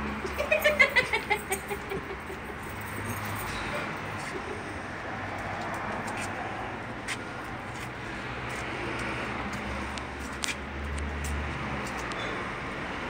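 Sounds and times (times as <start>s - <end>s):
motor vehicle rumble: 0.0s - 13.0s
street background noise: 0.0s - 13.0s.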